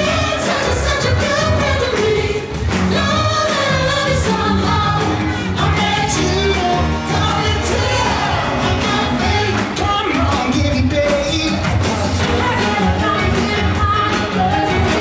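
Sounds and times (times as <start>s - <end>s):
upbeat pop music with singing: 0.0s - 15.0s.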